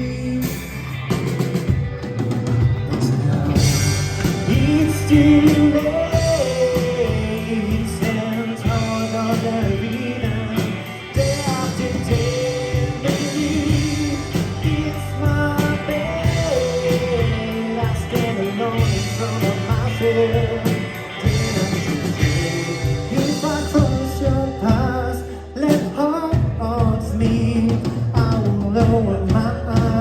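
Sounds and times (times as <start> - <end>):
bass guitar: 0.0 - 30.0
drum kit beat: 0.0 - 30.0
electric guitar: 0.0 - 30.0.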